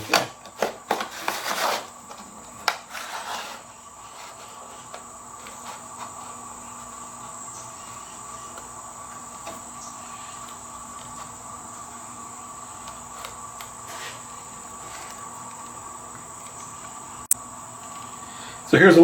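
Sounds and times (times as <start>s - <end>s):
background hum: 0.0s - 19.0s
high constant whine: 0.0s - 19.0s.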